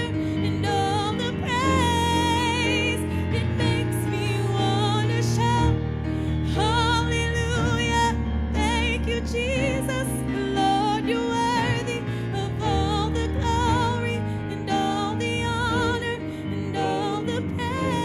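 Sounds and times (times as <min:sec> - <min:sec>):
woman singing with vibrato: 0:00.0 - 0:05.8, 0:06.5 - 0:18.0.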